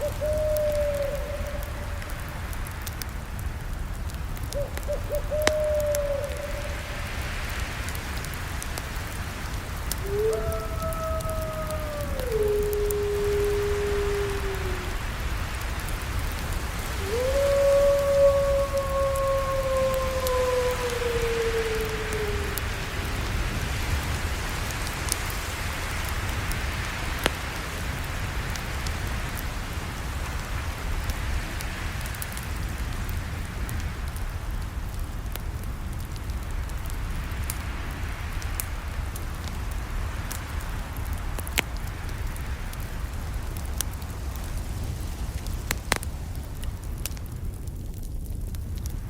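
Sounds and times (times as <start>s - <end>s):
campfire burning: 0.0s - 49.0s
fire pops and crackles: 0.0s - 49.0s.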